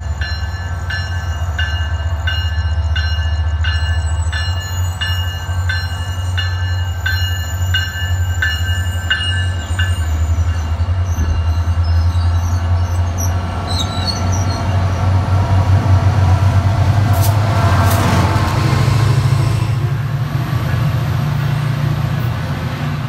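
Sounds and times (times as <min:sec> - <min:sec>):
commuter train rolling past: 0:00.0 - 0:23.0
diesel locomotive engine drone: 0:00.0 - 0:23.0.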